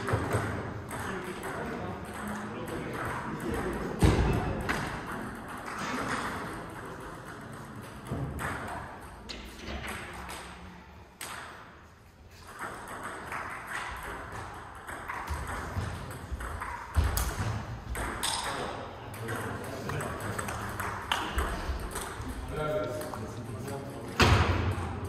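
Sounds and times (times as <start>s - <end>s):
table tennis balls clicking: 0.0s - 10.6s, 11.2s - 25.0s.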